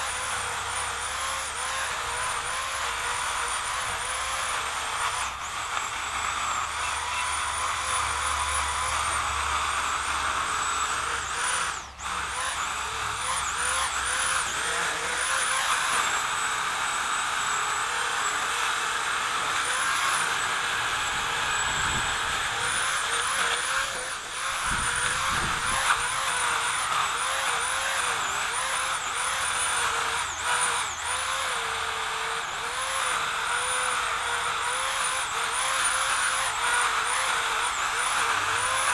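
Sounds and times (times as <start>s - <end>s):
chainsaw cutting branches: 0.0s - 38.9s.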